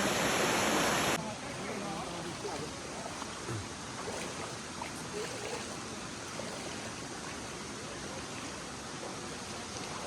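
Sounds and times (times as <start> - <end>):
river water rushing: 0.0 - 9.6.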